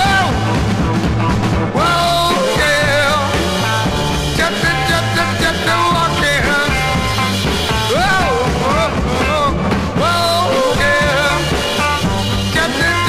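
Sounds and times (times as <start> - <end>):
beat group rock record: 0.0 - 13.0.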